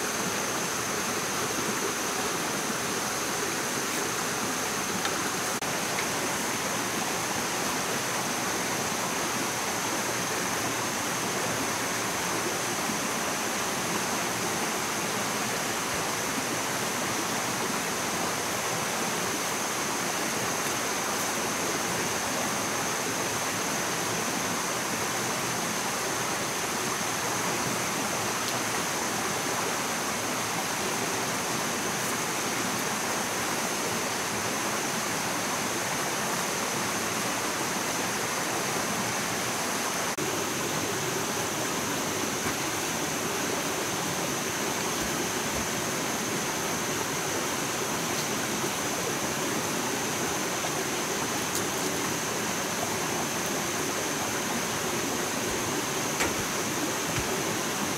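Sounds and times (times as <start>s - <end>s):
rushing outdoor hiss: 0.0s - 57.9s.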